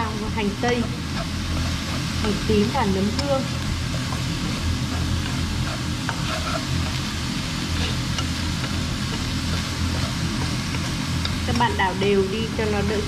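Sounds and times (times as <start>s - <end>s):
meat sizzling in a wok: 0.0s - 13.0s
steady low hum: 0.0s - 13.0s
chopsticks stirring: 0.4s - 13.0s.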